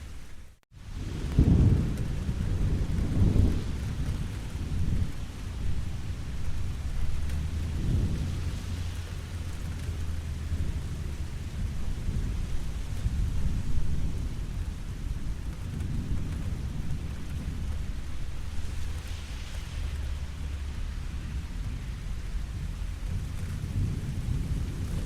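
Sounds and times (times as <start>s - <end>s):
low rumble: 0.0s - 25.0s
steady rain hiss: 0.0s - 25.0s.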